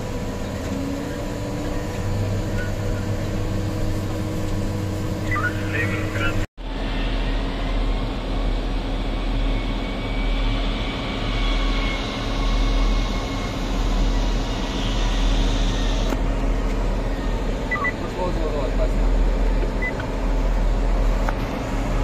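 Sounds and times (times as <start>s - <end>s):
heavy engine rumbling: 0.0s - 22.0s.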